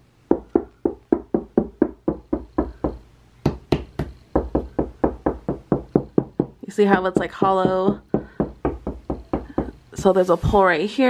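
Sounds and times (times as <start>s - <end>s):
knuckles knocking on hollow drywall: 0.3s - 9.8s.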